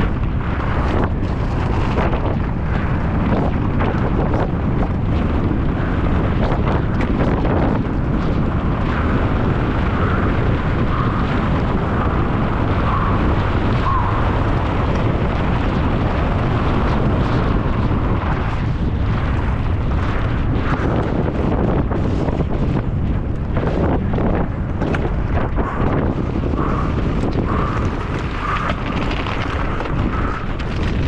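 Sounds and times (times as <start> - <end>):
rumbling tyre noise: 0.0 - 31.0
wind buffeting microphone: 0.0 - 31.0.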